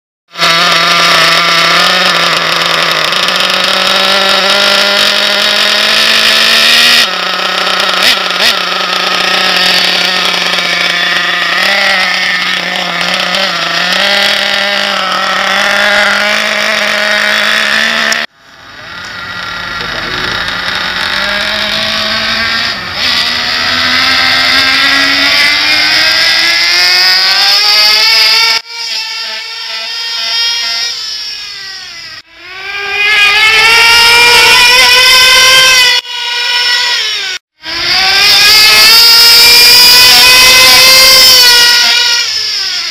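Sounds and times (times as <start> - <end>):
model engine buzzing at high revs: 0.3 - 42.9.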